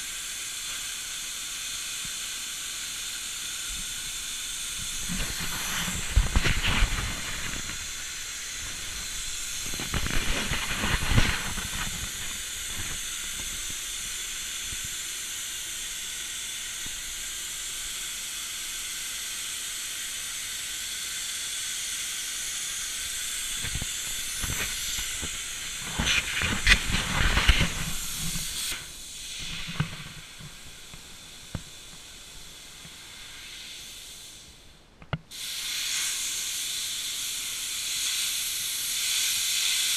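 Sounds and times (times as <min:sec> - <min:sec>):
plasma torch hissing: 0:00.0 - 0:34.7, 0:35.3 - 0:39.9.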